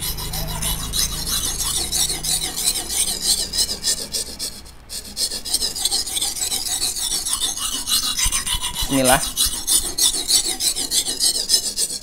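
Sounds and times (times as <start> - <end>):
blade scraping on whetstone: 0.0 - 12.0.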